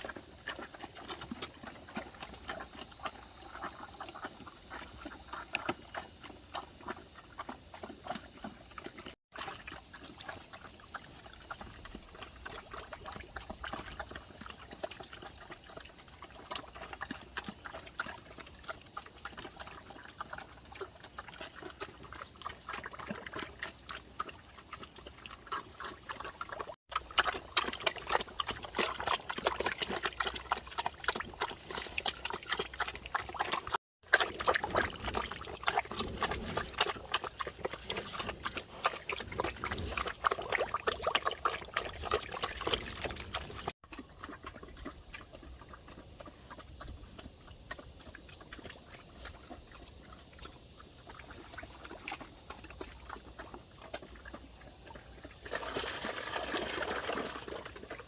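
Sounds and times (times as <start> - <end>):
animals smacking and slurping feed: 0.0 - 58.0.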